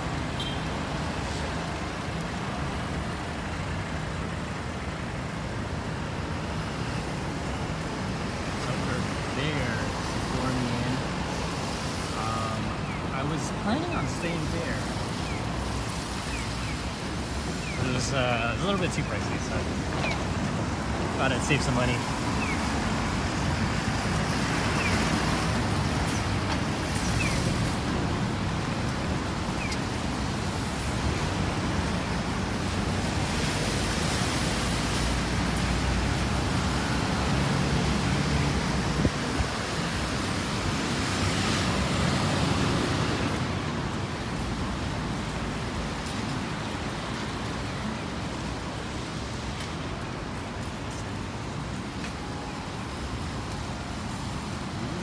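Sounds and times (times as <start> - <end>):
road noise hiss: 0.0 - 55.0
vehicles passing: 0.0 - 55.0.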